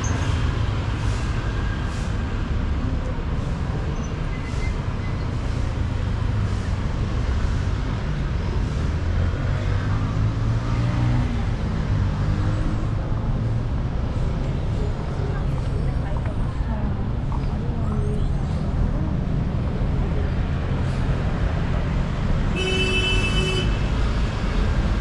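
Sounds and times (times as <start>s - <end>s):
rumble of passing cars: 0.0s - 25.0s.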